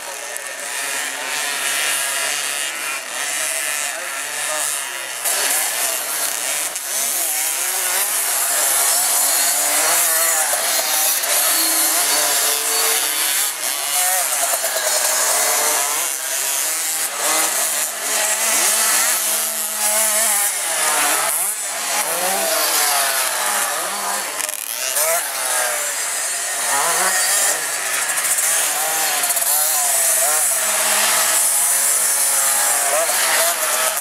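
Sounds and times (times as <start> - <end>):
motocross bikes racing: 0.0 - 34.0.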